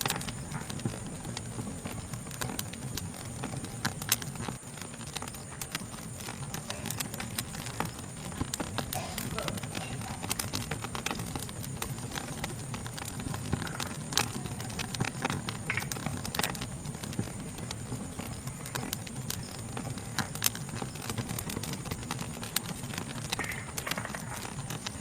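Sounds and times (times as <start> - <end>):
high insect chorus: 0.0 - 25.0
wood fire crackling and popping: 0.0 - 25.0.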